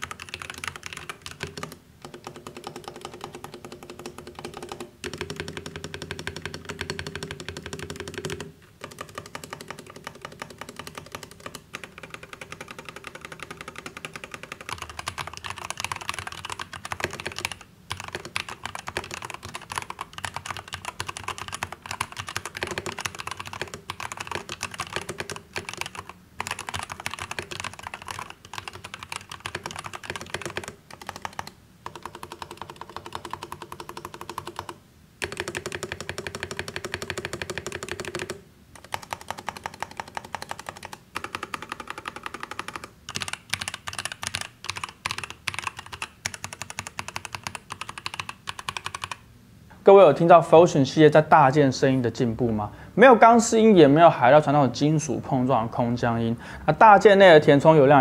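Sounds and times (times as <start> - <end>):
mechanical keyboard keystroke clacks: 0.0 - 49.2.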